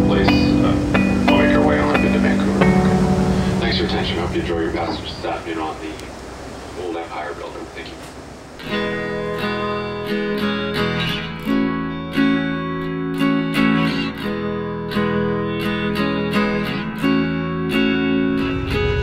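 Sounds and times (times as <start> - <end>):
strummed guitar: 0.0 - 5.4, 8.6 - 19.0.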